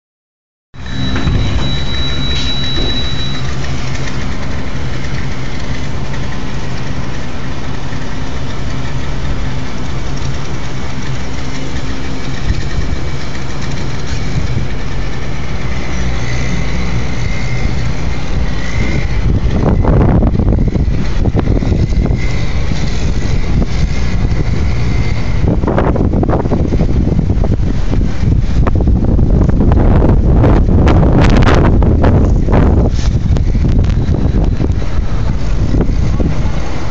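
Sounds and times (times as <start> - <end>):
wind buffeting microphone: 0.8 - 36.9.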